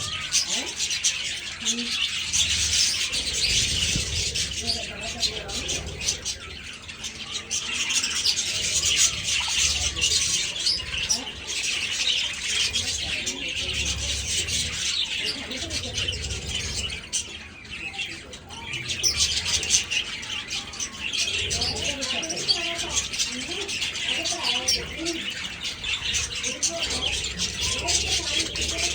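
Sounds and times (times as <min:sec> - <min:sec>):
budgerigars chattering and chirping: 0:00.0 - 0:28.9.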